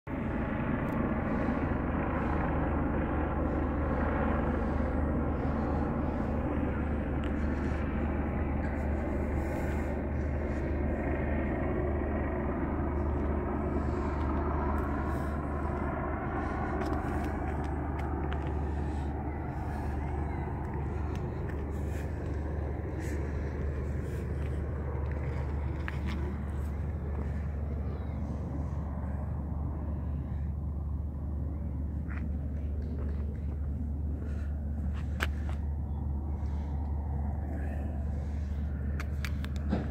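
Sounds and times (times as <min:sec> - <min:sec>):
constant hum: 0:00.1 - 0:39.9
low engine rumble: 0:00.1 - 0:39.9.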